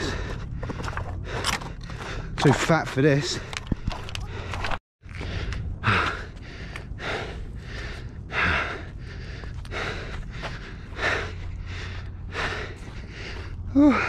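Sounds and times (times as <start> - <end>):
man breathing hard: 0.0 - 2.5, 3.3 - 14.0
steady low rumble: 0.0 - 14.0.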